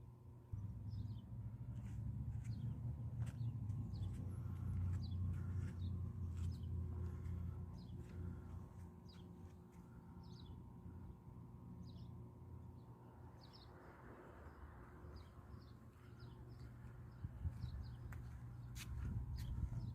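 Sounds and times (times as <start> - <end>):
low steady hum: 0.0 - 19.9.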